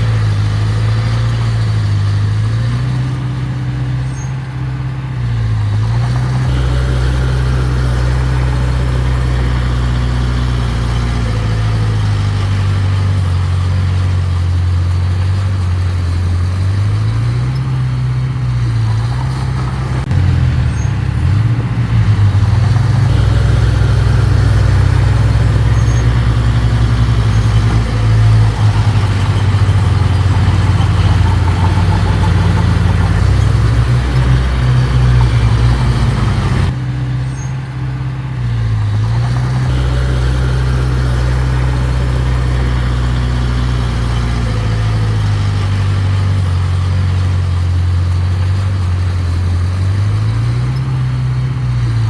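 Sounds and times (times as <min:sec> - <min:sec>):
heavy machine diesel engine: 0:00.0 - 0:52.0.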